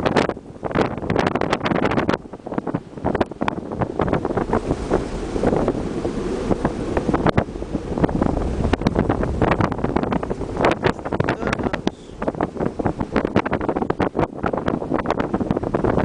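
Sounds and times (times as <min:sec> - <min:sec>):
low rumble: 0:00.0 - 0:16.0
rush of sea: 0:00.0 - 0:16.0
wind buffeting microphone: 0:00.0 - 0:16.0.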